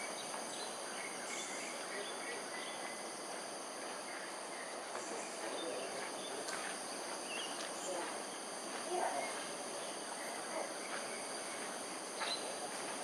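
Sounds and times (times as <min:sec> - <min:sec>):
insects chirring: 0:00.0 - 0:13.0
outdoor background hiss: 0:00.0 - 0:13.0.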